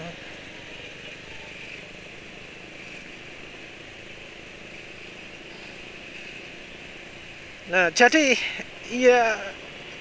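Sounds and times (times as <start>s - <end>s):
road noise hiss: 0.0s - 10.0s.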